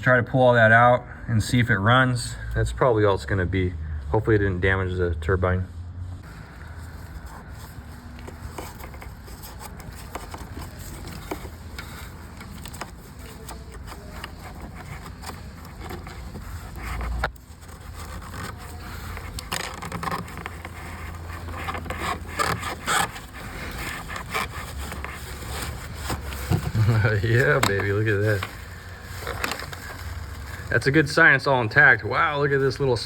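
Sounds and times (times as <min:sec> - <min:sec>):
cloth rag scraping metal: 0:06.2 - 0:33.0.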